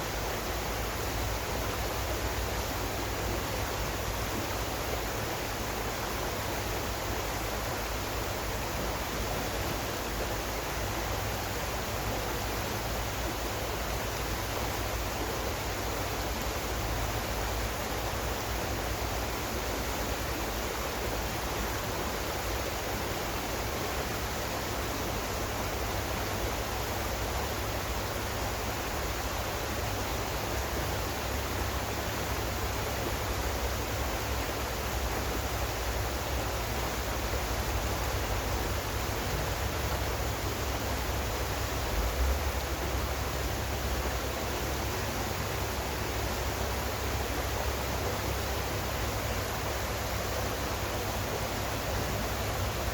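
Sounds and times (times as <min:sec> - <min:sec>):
rush of flowing water: 0:00.0 - 0:52.9.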